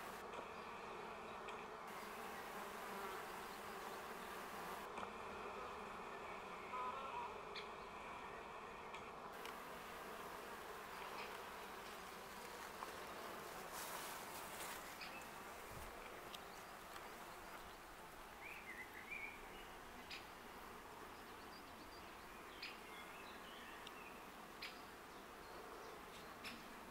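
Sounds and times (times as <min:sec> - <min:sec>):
bees humming: 0:00.0 - 0:26.9.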